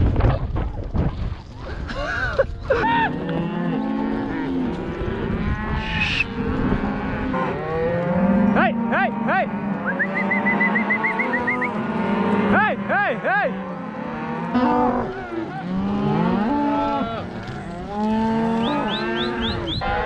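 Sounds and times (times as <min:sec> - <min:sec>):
cows mooing and bawling: 0:02.1 - 0:20.0.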